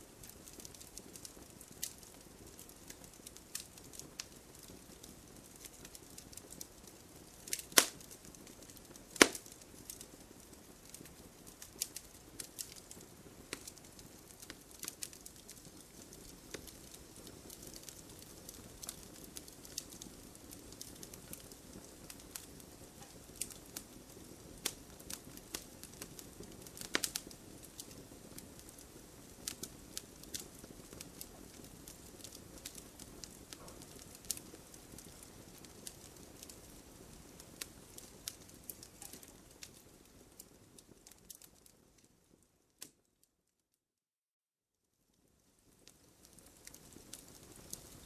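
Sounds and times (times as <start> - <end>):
wood fire crackling: 0.0 - 43.2, 45.2 - 48.0.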